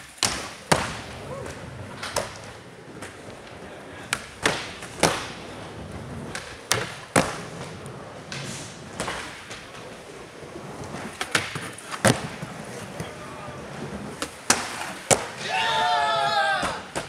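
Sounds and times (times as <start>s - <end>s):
skateboard wheels rolling on concrete: 0.0s - 17.0s
skateboards clacking on ground: 0.0s - 17.0s.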